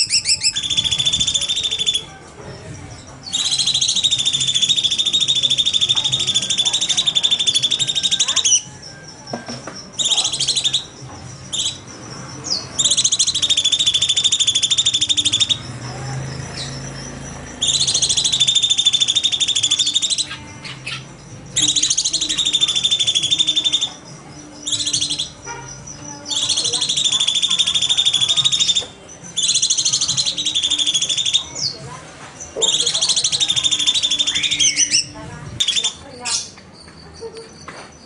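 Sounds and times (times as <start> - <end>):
songbird trilling rapidly: 0.0 - 2.2, 2.9 - 37.7.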